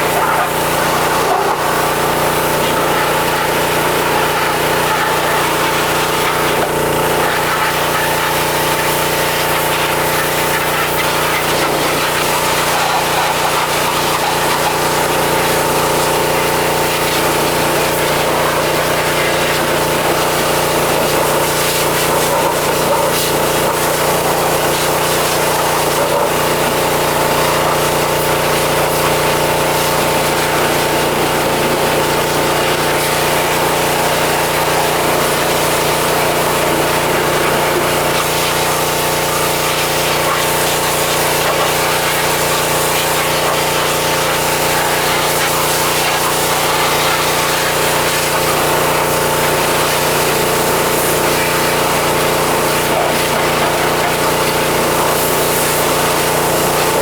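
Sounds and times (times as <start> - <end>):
pressure washer motor hum: 0.0 - 57.0
water jet hissing: 0.0 - 57.0.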